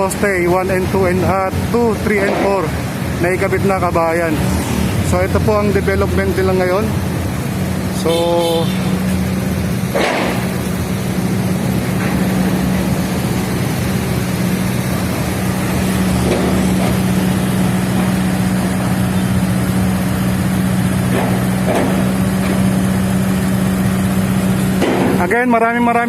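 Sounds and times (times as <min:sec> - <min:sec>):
low engine drone: 0:00.0 - 0:26.0
road traffic: 0:00.0 - 0:26.0.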